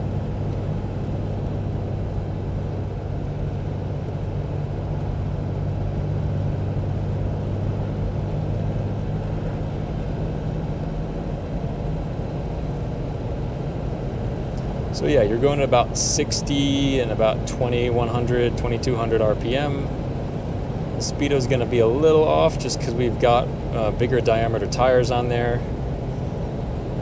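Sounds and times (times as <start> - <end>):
diesel engine running steadily: 0.0 - 27.0
road noise: 0.0 - 27.0.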